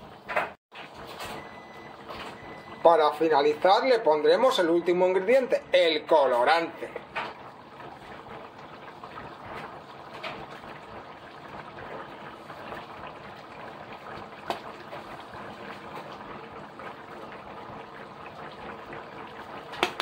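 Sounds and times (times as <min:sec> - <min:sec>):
broth bubbling in a pan: 0:00.0 - 0:20.0.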